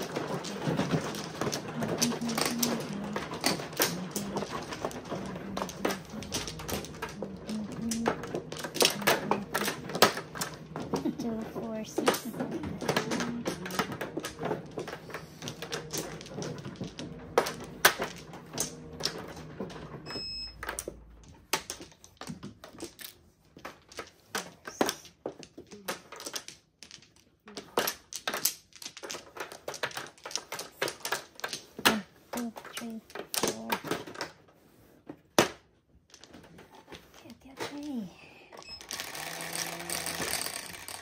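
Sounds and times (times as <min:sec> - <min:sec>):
mahjong tiles clacking: 0:00.0 - 0:41.0.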